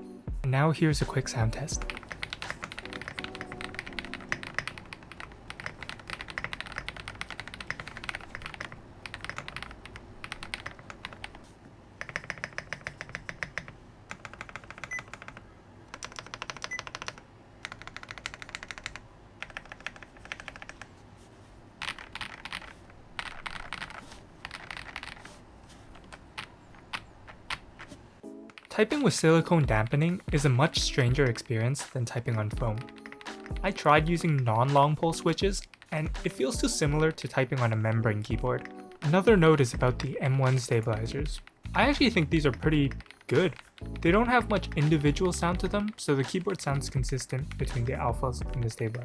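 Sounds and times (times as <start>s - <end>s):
soft mechanical keyboard typing: 1.8s - 21.0s, 21.8s - 29.1s, 29.8s - 49.0s.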